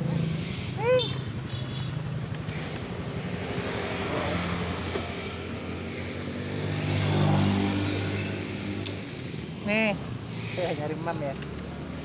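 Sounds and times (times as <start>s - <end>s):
traffic noise: 0.0s - 12.0s
vehicle engine passing: 0.0s - 12.0s.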